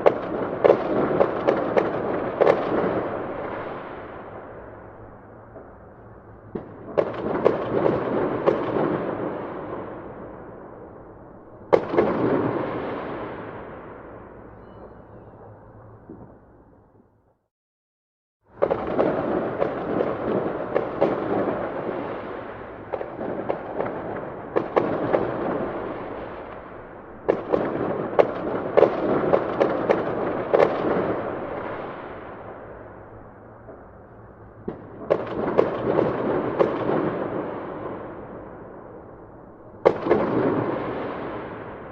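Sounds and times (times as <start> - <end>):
fireworks bangs and crackling: 0.0 - 16.6, 18.4 - 41.9
fireworks rumble: 0.0 - 17.4, 18.4 - 41.9.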